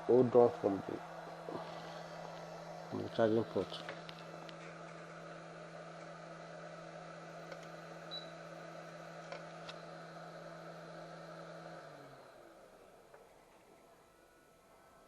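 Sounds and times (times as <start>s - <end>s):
small electric motor humming: 0.0s - 13.6s.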